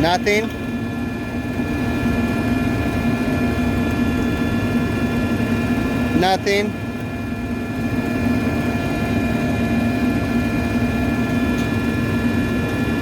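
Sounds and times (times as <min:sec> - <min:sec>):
hvac machinery humming: 0:00.0 - 0:13.0.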